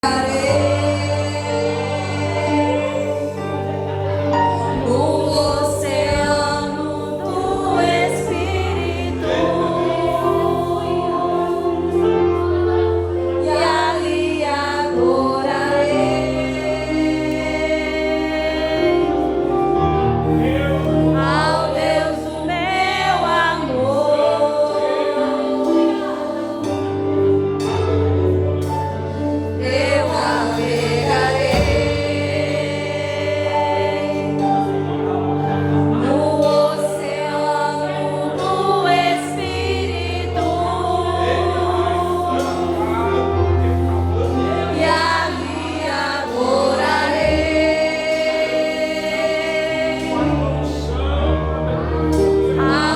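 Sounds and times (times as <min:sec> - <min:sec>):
held bass notes: 0:00.0 - 0:52.9
worship team singing: 0:00.0 - 0:52.9.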